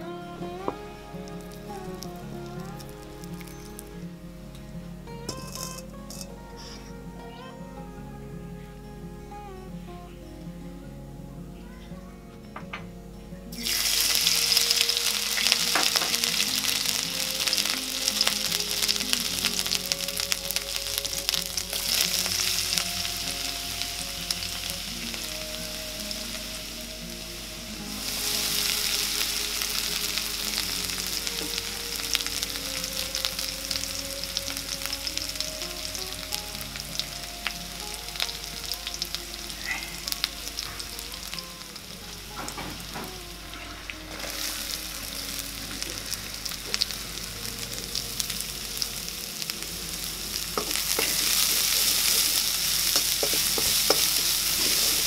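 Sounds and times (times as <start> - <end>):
food sizzling in hot oil: 0.6 - 3.9, 13.5 - 55.0.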